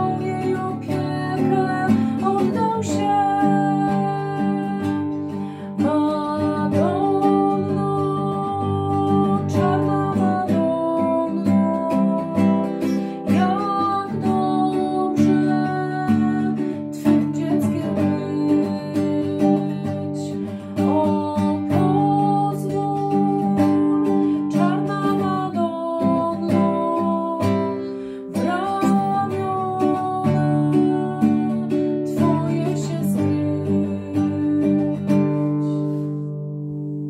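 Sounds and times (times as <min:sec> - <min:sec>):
person singing a hymn: 0:00.0 - 0:05.0, 0:05.8 - 0:35.1
acoustic guitar strumming: 0:00.0 - 0:37.0.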